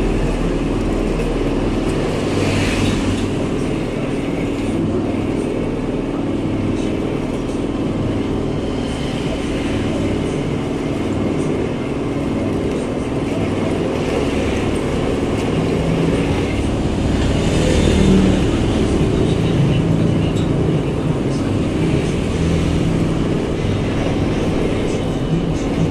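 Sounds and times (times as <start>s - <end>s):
metal lathe humming: 0.0s - 25.9s.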